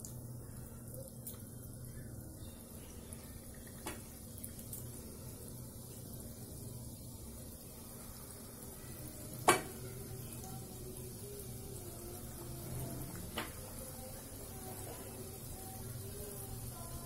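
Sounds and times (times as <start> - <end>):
dough sizzling in hot oil: 0.0 - 17.0.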